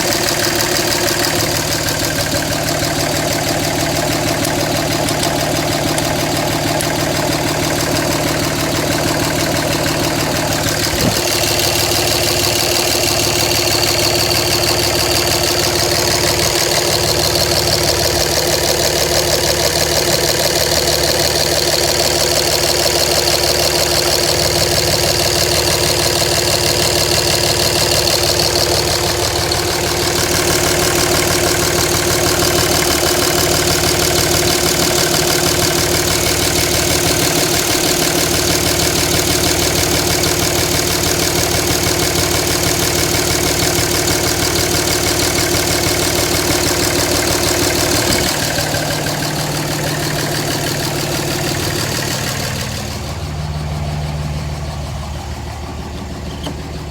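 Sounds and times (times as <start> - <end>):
diesel engine idling roughly: 0.0 - 56.9.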